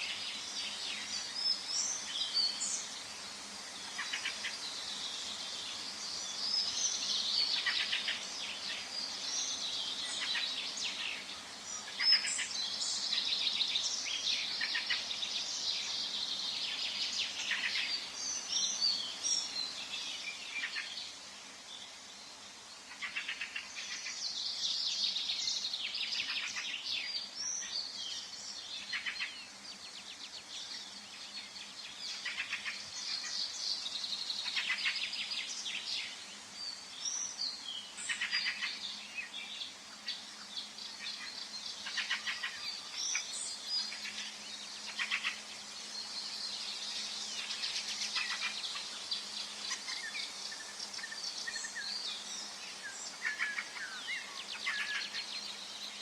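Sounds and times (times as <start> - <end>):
forest birds singing: 0.0 - 56.0.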